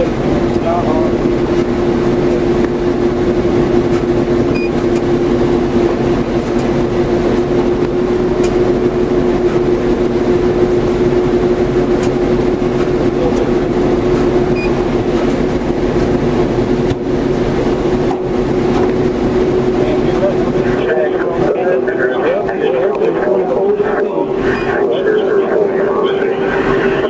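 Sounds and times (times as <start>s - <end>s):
constant hum: 0.0s - 27.0s
vehicle idling: 0.0s - 27.0s.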